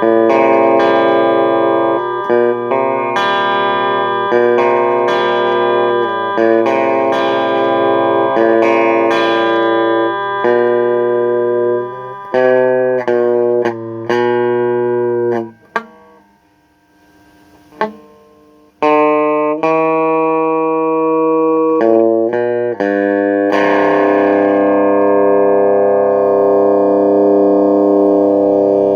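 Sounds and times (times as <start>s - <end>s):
long held music chords: 0.0s - 28.9s.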